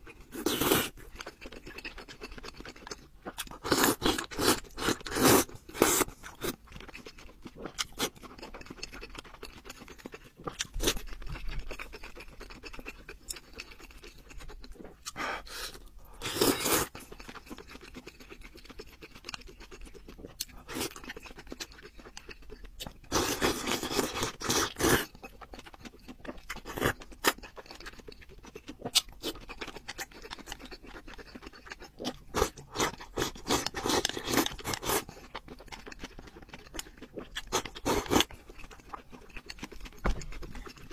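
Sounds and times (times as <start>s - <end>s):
chewing and slurping noodles: 0.0s - 40.9s.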